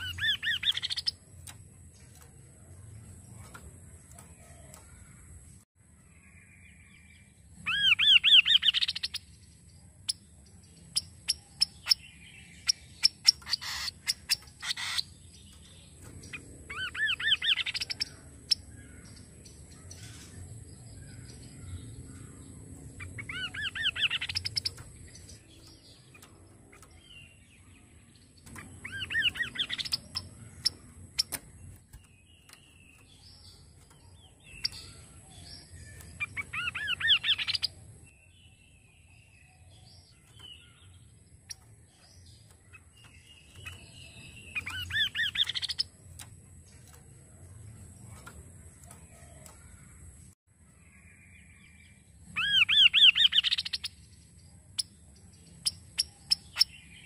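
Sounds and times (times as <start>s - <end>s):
bird singing trills: 0.0s - 57.0s.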